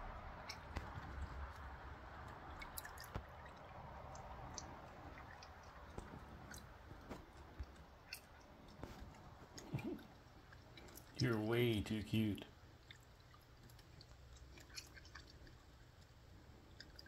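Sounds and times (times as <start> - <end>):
raccoon splashing and chewing: 0.0 - 17.0.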